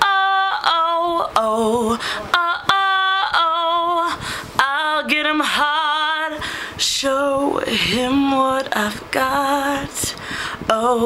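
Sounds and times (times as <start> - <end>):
woman singing held vowel notes: 0.0 - 10.1.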